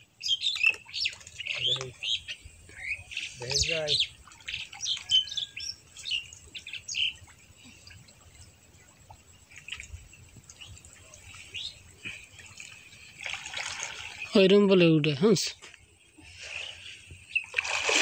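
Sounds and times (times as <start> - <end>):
small birds chirping: 0.0 - 14.7, 15.3 - 17.6.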